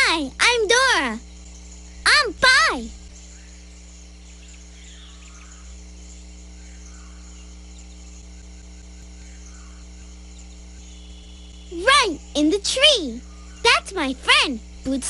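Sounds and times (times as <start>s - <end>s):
outdoor nature ambience: 0.0s - 15.0s
steady low hum: 0.0s - 15.0s.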